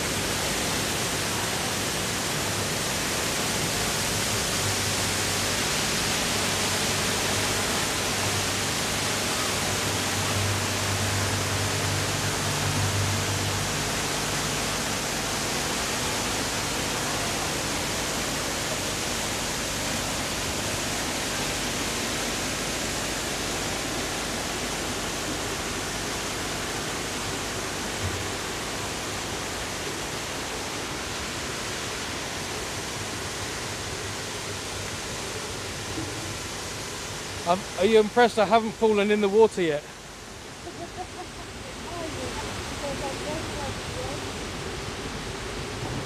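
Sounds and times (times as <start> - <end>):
rush of falling water: 0.0 - 46.0.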